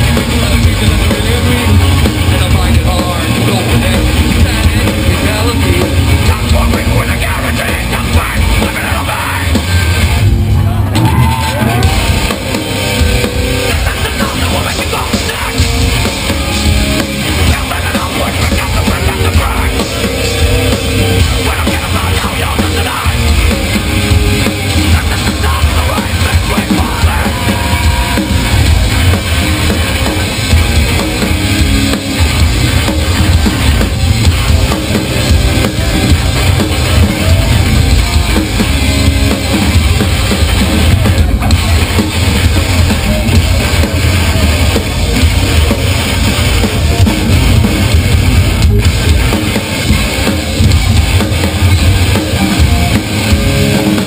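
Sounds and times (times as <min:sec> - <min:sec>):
heavy bass drum: 0:00.0 - 0:54.0
live hardcore band: 0:00.0 - 0:54.0.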